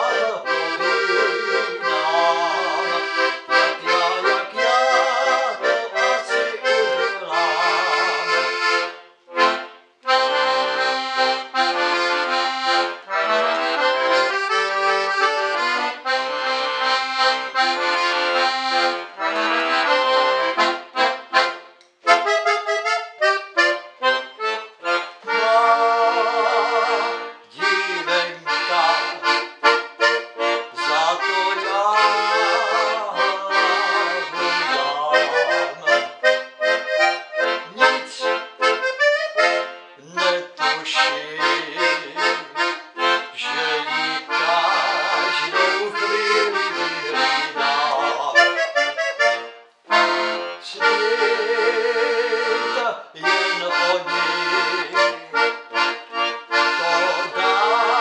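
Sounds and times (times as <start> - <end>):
solo accordion playing: 0.0 - 58.0.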